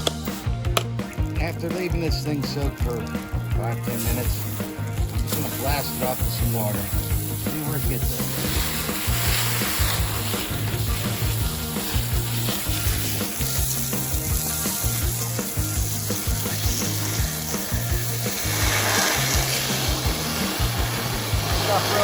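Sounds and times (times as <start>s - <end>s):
background music with steady beat: 0.0s - 22.0s
water spray hissing: 0.0s - 22.0s.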